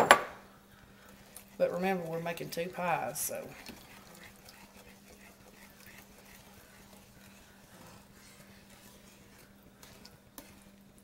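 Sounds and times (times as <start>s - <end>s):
wooden spoon stirring in a bowl: 0.6s - 11.0s.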